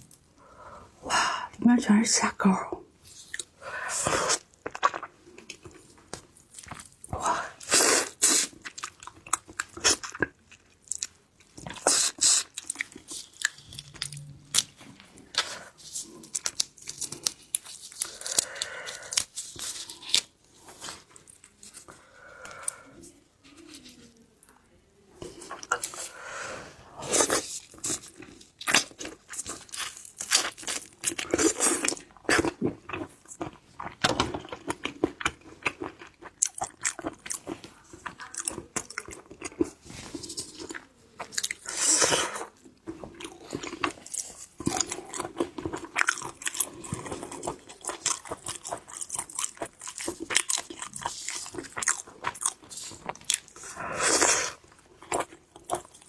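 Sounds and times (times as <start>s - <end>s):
wet chewing: 3.2s - 24.1s, 27.0s - 56.0s.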